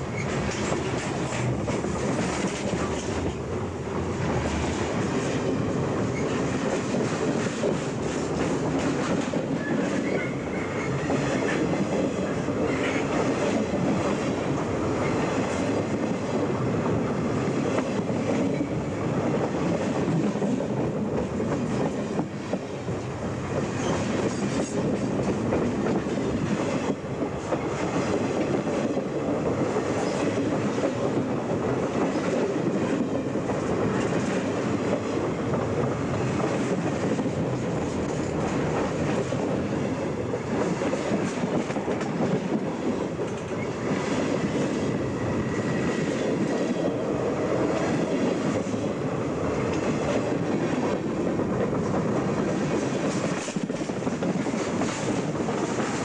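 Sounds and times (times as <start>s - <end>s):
freight train rumbling overhead: 0.0s - 56.0s
steel wheels clattering on rail: 0.0s - 56.0s.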